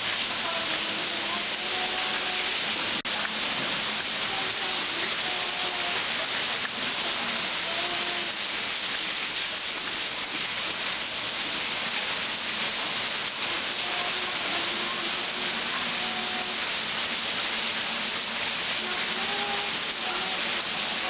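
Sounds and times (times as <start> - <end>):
heavy rain pouring on water: 0.0 - 21.0.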